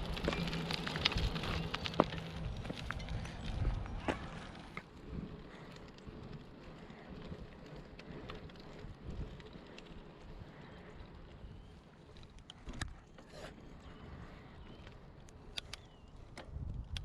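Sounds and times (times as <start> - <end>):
wind buffeting microphone: 0.0 - 13.0, 13.6 - 17.0
bicycle rolling: 0.0 - 17.0.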